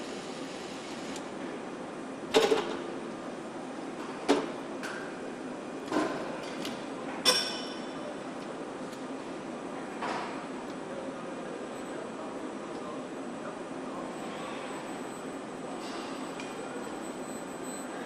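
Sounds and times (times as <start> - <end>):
factory hall hum: 0.0 - 18.0.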